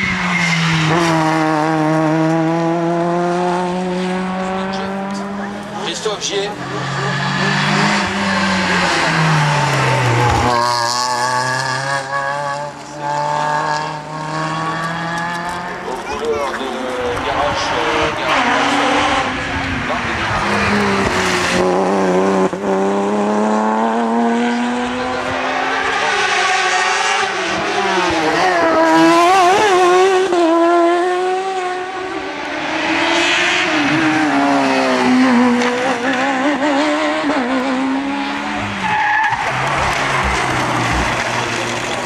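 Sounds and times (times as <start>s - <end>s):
race car engines at full throttle: 0.0s - 42.0s.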